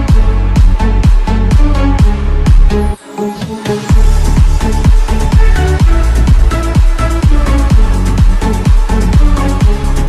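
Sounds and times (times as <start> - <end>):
steady kick drum: 0.0 - 3.0, 3.8 - 10.0.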